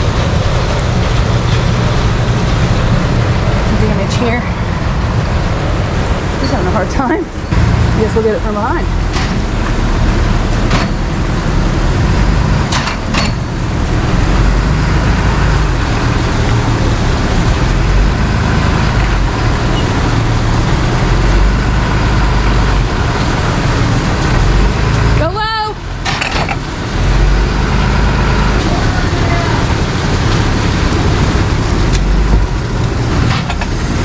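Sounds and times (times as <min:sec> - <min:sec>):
rain on wet pavement: 0:00.0 - 0:34.0
truck engine running: 0:00.0 - 0:34.0.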